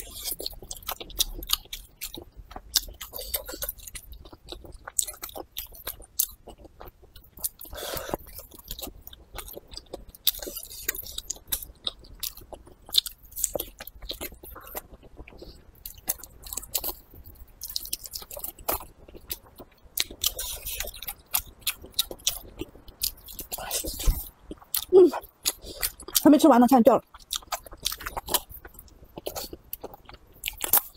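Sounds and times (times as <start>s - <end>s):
person chewing and biting: 0.0s - 26.2s, 27.1s - 30.9s.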